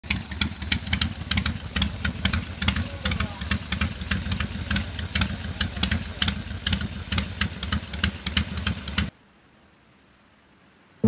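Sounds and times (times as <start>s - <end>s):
motorcycle engine idling: 0.0s - 9.1s
sharp engine cracks: 0.0s - 9.1s.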